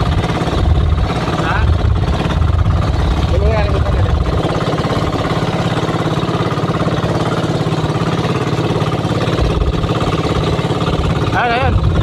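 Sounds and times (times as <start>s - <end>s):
boat motor running: 0.0s - 12.0s
wind and water rushing: 0.0s - 12.0s.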